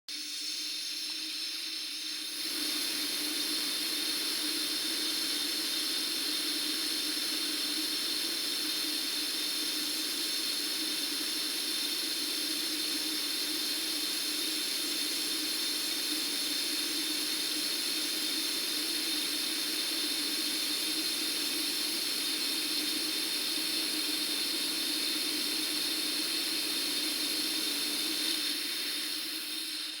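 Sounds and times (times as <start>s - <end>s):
compressed air hissing through pipe: 0.1s - 30.0s.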